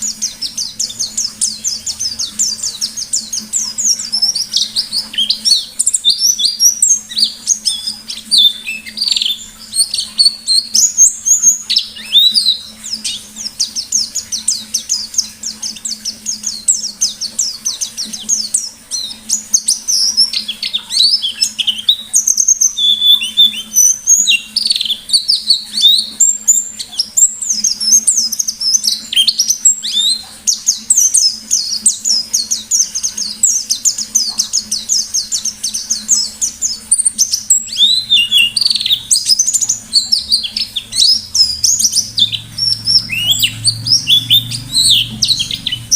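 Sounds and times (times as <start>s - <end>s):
bird chirping and trilling: 0.0s - 45.9s.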